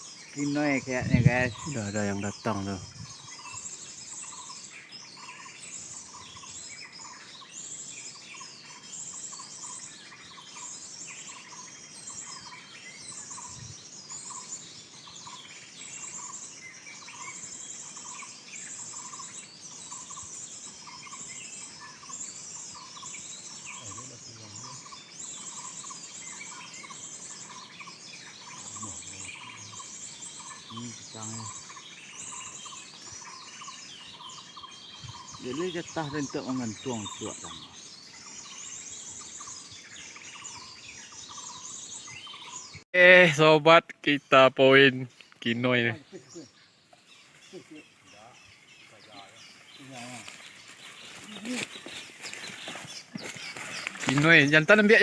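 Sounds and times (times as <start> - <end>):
rapid high chirping: 0.0 - 55.0.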